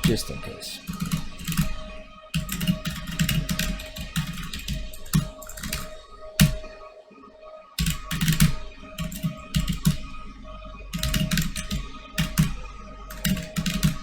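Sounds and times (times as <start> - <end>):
keyboard typing: 0.0 - 1.8, 2.4 - 6.6, 7.8 - 10.0, 11.0 - 14.0.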